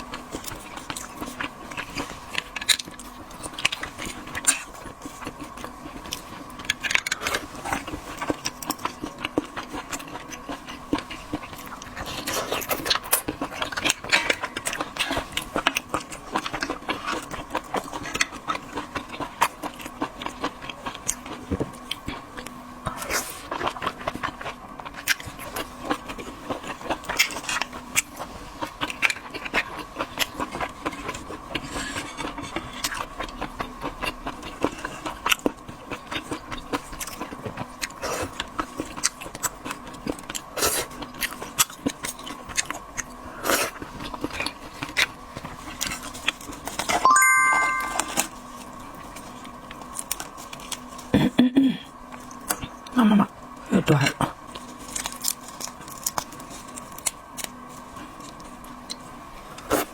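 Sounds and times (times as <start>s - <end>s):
chewing: 0.0s - 47.0s, 51.8s - 59.9s.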